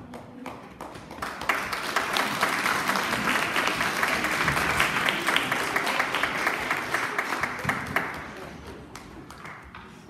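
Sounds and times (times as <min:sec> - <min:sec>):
audience applauding: 0:00.8 - 0:09.8.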